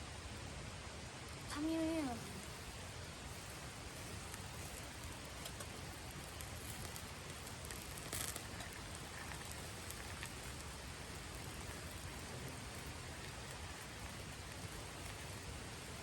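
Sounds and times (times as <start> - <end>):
campfire hissing: 0.0 - 16.0
fire crackling: 0.0 - 16.0.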